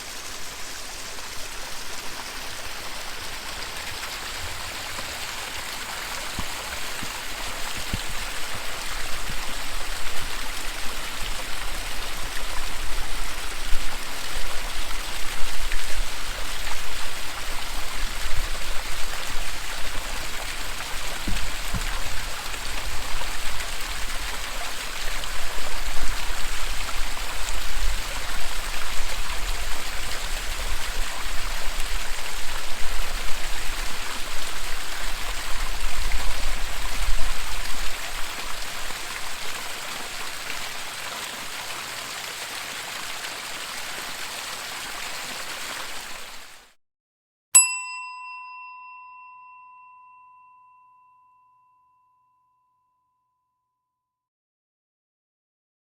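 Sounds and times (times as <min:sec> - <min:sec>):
waterfall rushing: 0:00.0 - 0:46.6.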